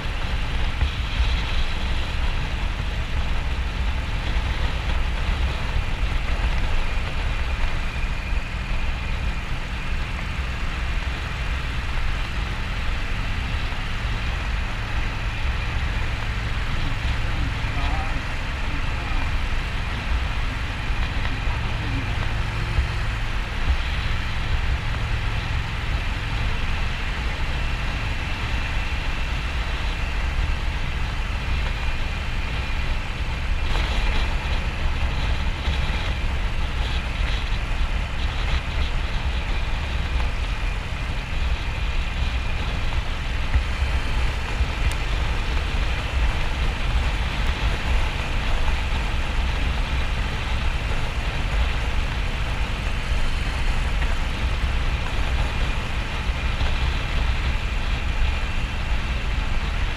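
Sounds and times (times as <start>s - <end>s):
motorcycle engine running: 0.0s - 59.9s
road noise: 0.0s - 59.9s.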